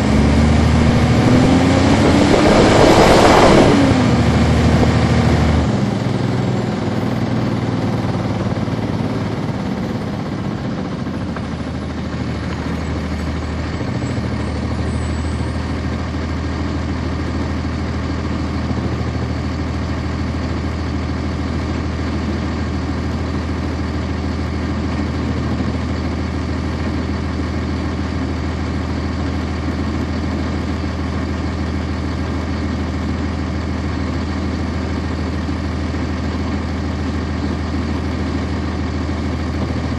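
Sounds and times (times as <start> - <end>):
bus diesel engine idling: 3.2 - 39.9.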